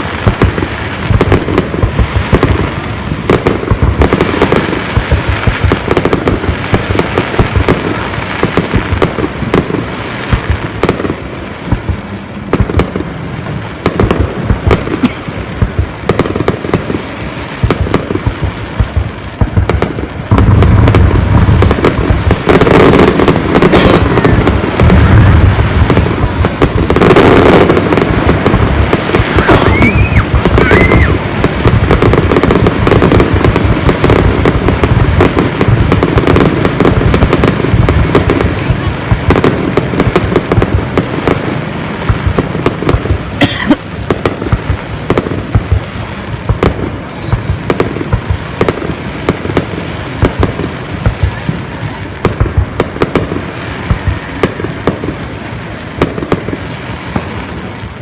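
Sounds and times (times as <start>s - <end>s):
deep fireworks booms: 0.0s - 58.0s
fireworks crackling bangs: 0.0s - 58.0s
rising firework whistle: 0.0s - 58.0s.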